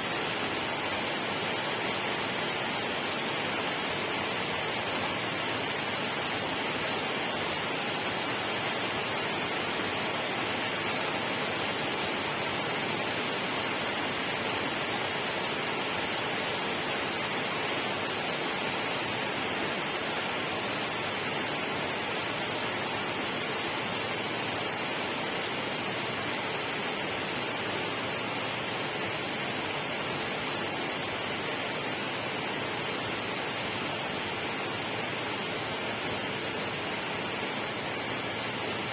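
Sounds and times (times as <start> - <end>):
rushing water hiss: 0.0 - 38.9.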